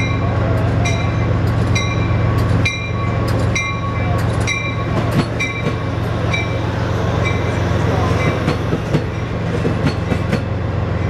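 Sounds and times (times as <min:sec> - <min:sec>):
train bell ringing: 0:00.0 - 0:10.2
train rolling past: 0:00.0 - 0:11.0.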